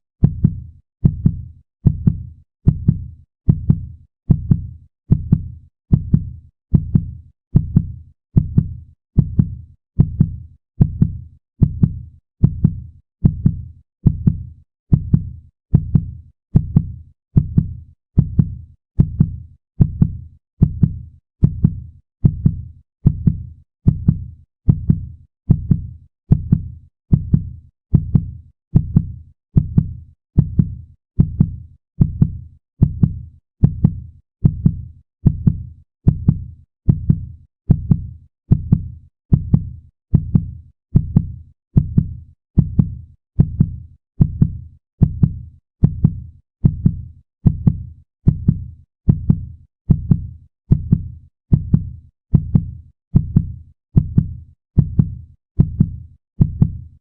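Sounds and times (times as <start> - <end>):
heartbeat thumps: 0.2 - 56.8.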